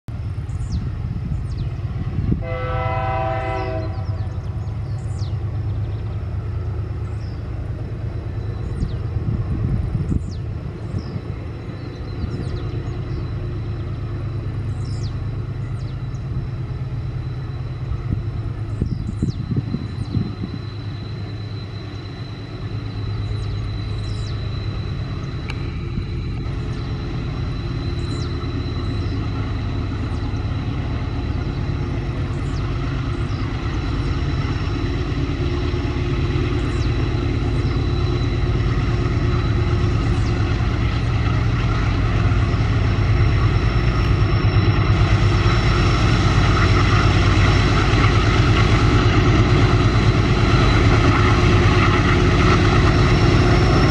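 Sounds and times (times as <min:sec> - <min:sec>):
heavy locomotive engine rumble: 0:00.1 - 0:53.9.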